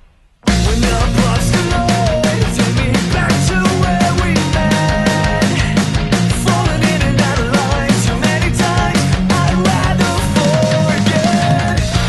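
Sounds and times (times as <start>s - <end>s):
hard rock music: 0.4s - 12.0s.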